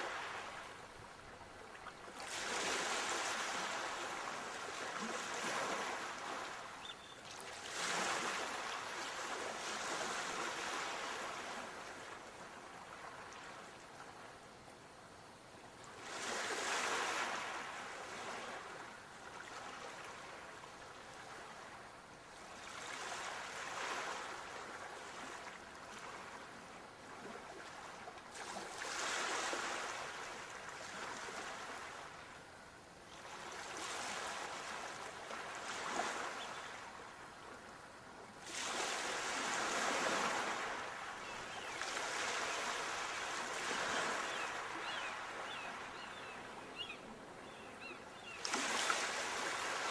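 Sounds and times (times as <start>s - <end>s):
sea waves breaking on shore: 0.0s - 14.3s, 15.9s - 32.5s, 33.1s - 49.9s.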